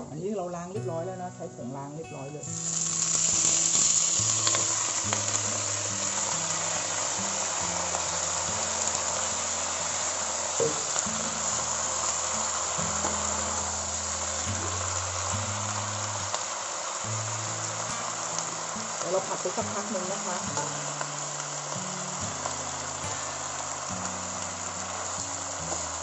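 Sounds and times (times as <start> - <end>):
cabbage sizzling in hot oil: 0.0 - 26.0.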